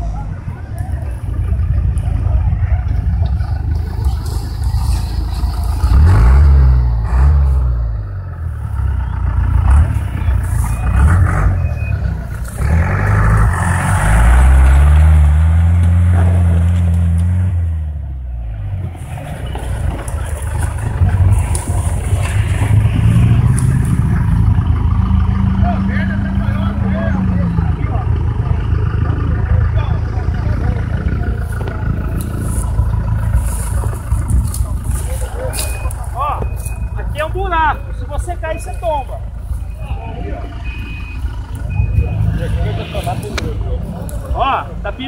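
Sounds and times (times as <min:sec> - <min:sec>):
off-road vehicle engine revving: 0:00.0 - 0:45.0.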